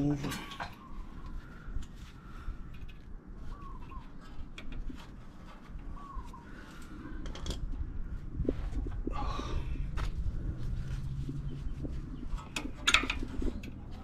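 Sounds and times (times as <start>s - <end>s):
low background rumble: 0.8s - 14.0s.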